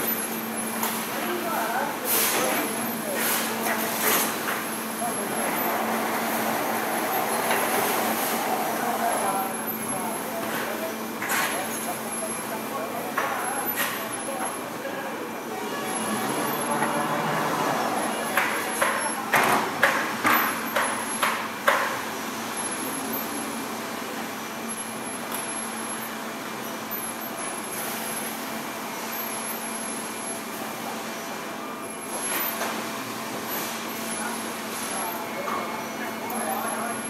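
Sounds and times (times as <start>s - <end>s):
factory machinery hum: 0.0s - 37.0s.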